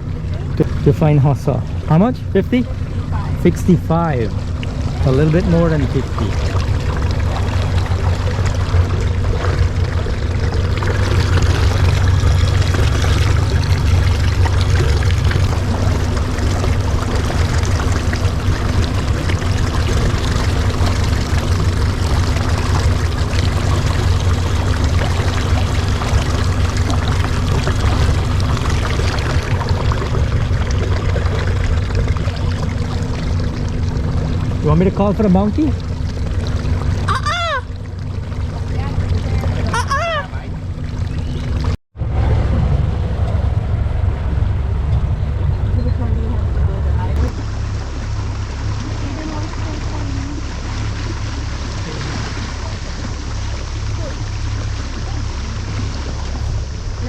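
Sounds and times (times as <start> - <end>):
boat motor running: 0.0 - 57.0
water splashing along hull: 0.0 - 57.0.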